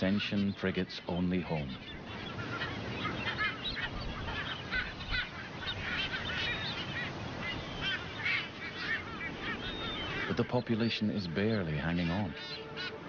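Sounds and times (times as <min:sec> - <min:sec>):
seabirds calling: 0:00.0 - 0:13.0.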